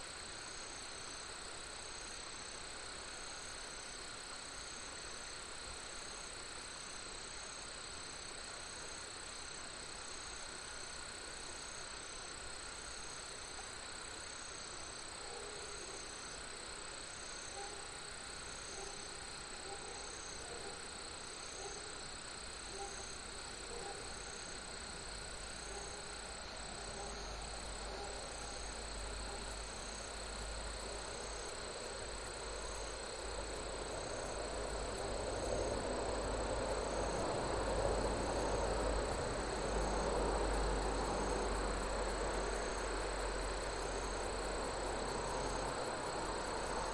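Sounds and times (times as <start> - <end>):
insect chirping: 0.0 - 46.9
insects trilling: 0.0 - 46.9.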